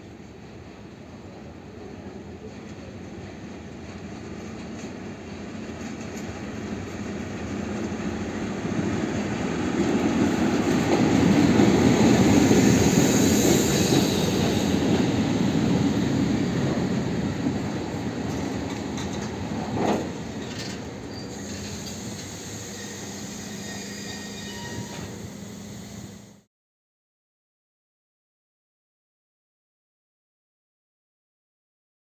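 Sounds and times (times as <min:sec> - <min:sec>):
diesel locomotive engine rumbling: 0:00.1 - 0:26.4.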